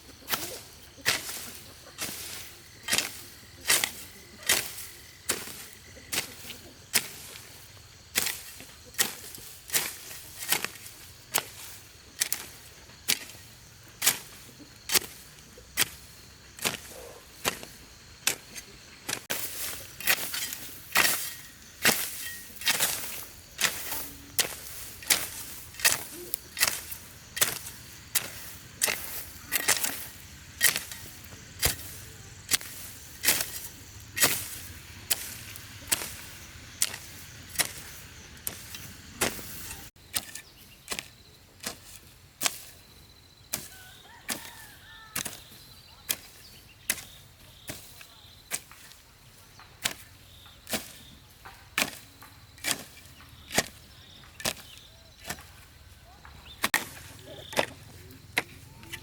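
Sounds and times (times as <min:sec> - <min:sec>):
hand tool chopping: 0:00.2 - 0:42.8, 0:43.5 - 0:59.0.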